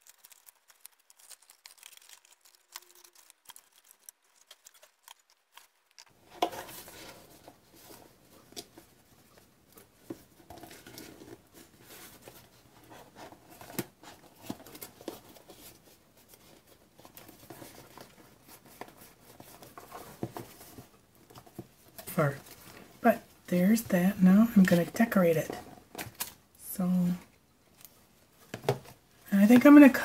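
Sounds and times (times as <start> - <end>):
paper rustling and creasing: 0.0 - 26.4.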